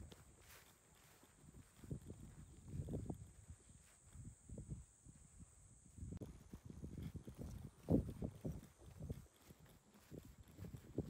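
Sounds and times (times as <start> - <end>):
footsteps on grass: 0.0 - 4.7, 6.2 - 11.0.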